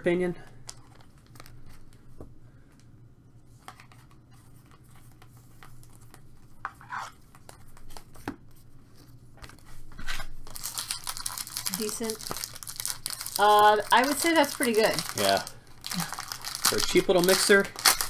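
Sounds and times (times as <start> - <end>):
card rustle: 0.6 - 2.0, 3.5 - 18.0.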